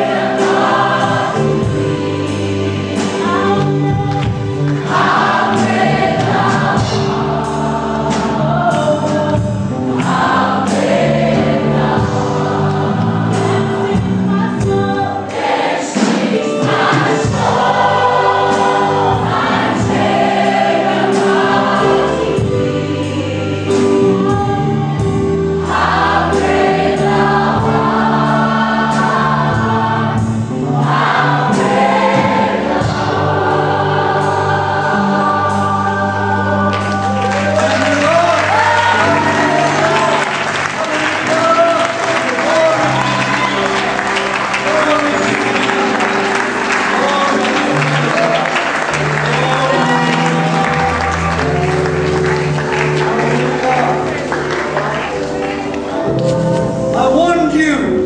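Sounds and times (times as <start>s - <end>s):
choir singing gospel: 0.0s - 58.0s.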